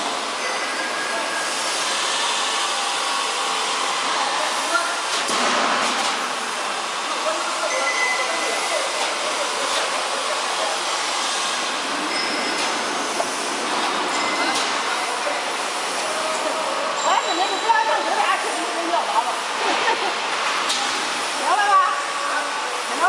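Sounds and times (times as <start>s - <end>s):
roll forming machine running: 0.0s - 23.0s.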